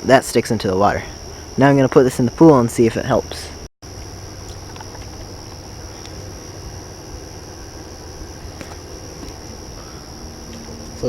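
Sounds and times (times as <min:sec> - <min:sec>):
crickets trilling: 0:00.0 - 0:11.0
low constant rumble: 0:00.0 - 0:11.0.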